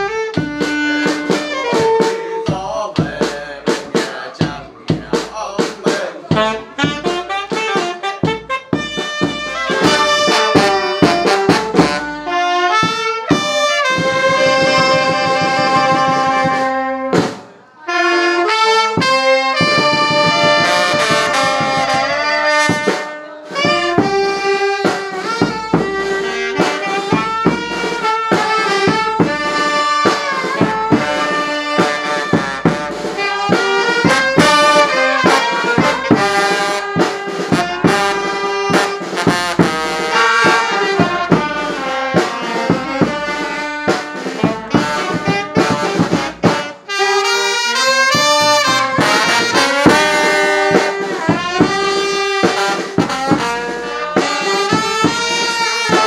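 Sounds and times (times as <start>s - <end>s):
brass band music: 0.0s - 56.0s.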